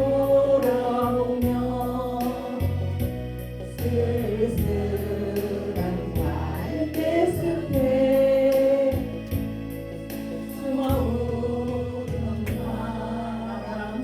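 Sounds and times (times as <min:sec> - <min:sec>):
backing track with steady beat: 0:00.0 - 0:14.0
group singing in unison: 0:00.0 - 0:14.0.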